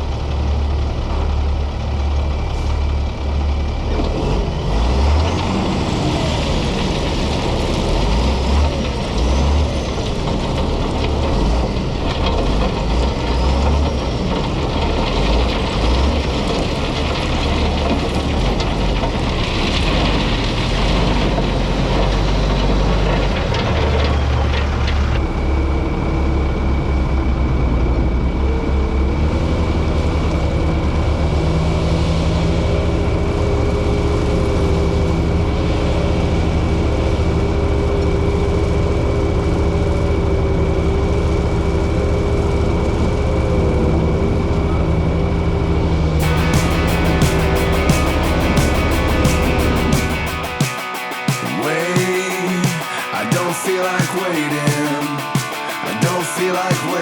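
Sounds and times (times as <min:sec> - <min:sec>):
heavy diesel equipment rumbling: 0:00.0 - 0:50.6
high-pitched whine: 0:00.0 - 0:57.0.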